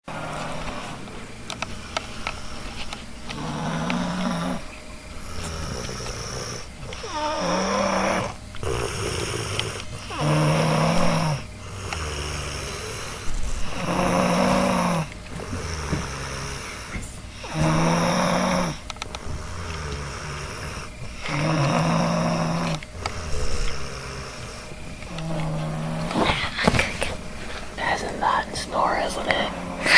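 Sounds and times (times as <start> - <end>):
loud droning snores: 0.1 - 26.6
quiet breaths: 0.1 - 29.9.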